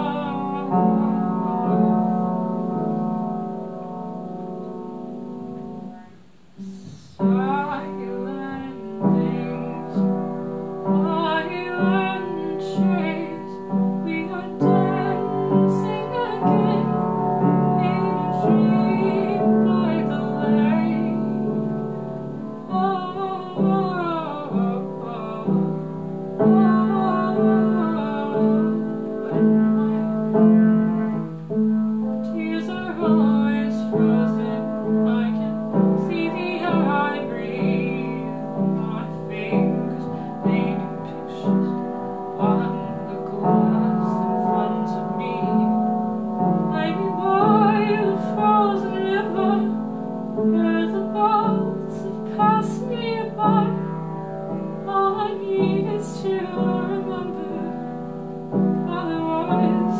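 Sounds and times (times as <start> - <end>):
woman singing: 0.0 - 31.3, 32.0 - 59.9
piano slow chords: 0.0 - 59.9.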